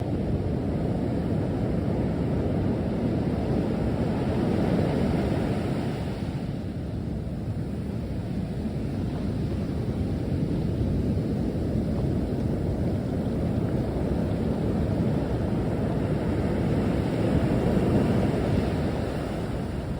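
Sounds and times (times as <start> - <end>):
storm surf breaking waves: 0.1 - 19.9.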